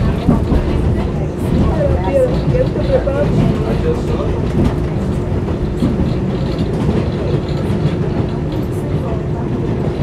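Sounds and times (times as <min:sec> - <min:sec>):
subway wheels rumbling on track: 0:00.0 - 0:10.0.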